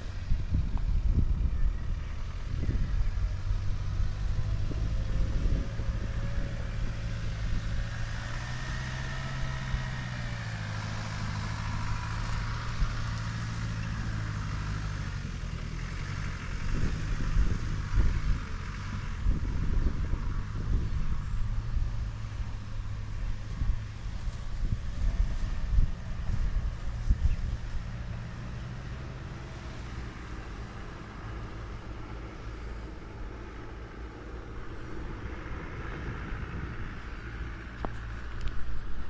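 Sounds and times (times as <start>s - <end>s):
off-road vehicle engine driving: 0.0s - 39.0s.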